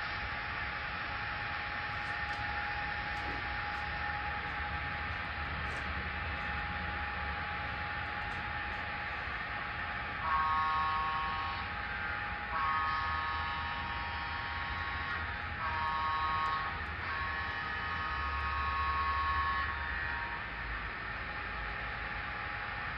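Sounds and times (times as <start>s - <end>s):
model train rumbling on track: 0.0s - 22.9s
model train horn blasts: 1.4s - 21.0s.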